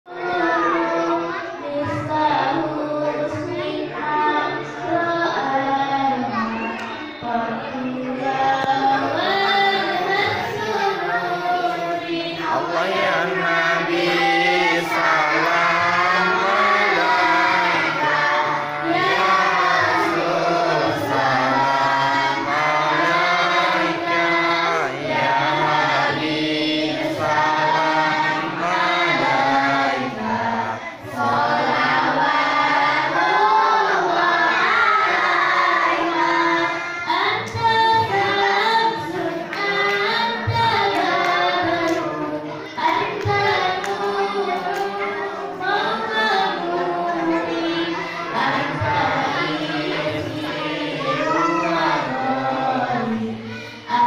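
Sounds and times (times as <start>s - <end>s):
girls singing devotional songs: 0.1s - 54.0s.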